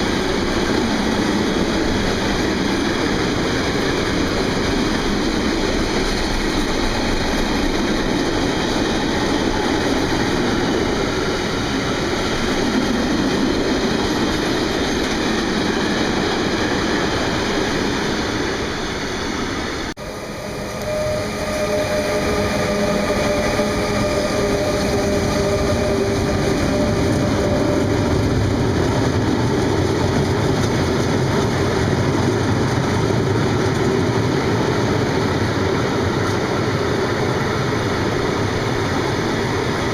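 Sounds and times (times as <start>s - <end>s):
freight train rumbling clickety-clack: 0.0s - 39.9s.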